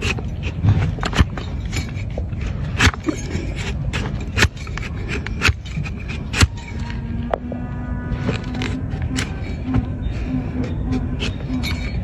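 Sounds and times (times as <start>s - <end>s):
steady low noise: 2.2s - 12.0s.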